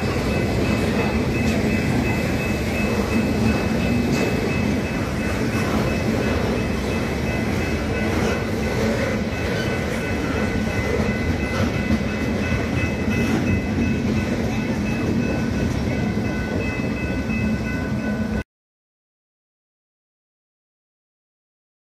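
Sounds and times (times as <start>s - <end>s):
rail clacks: 0.0s - 18.4s
train wheels rumbling on rails: 0.0s - 18.4s.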